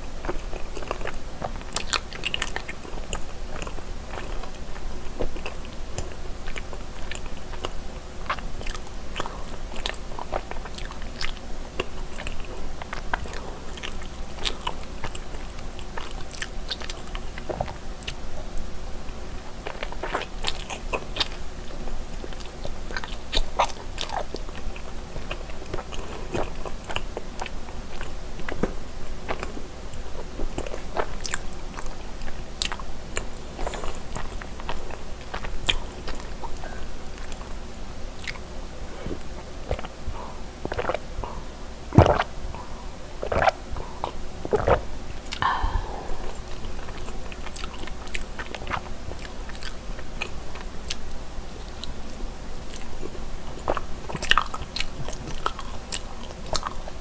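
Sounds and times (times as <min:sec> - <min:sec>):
person chewing: 0:00.2 - 0:37.6, 0:38.2 - 0:57.0.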